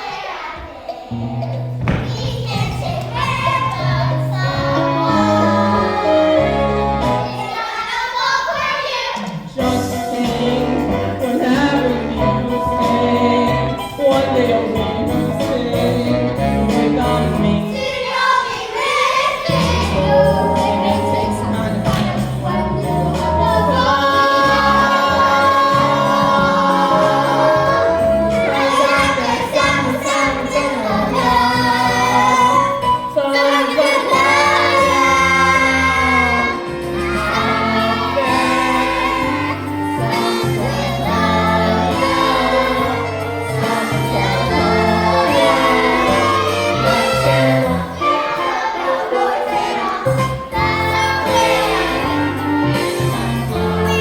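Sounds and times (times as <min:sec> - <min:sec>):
young people singing: 0:00.0 - 0:54.0.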